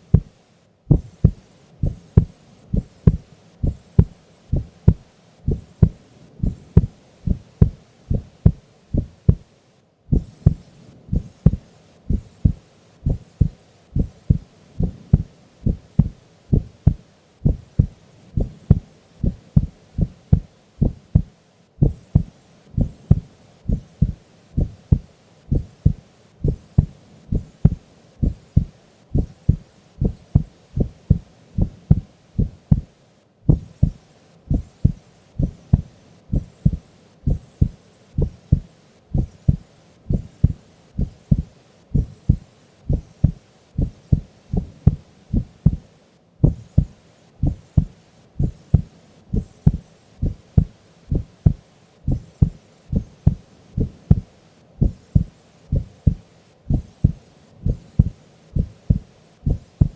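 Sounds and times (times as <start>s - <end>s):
slow steady heartbeat: 0.0s - 9.5s, 10.1s - 59.9s.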